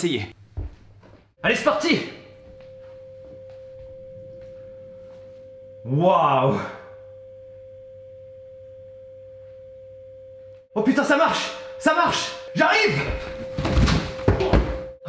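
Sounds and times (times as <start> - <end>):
steady sine tone: 1.4 - 15.0.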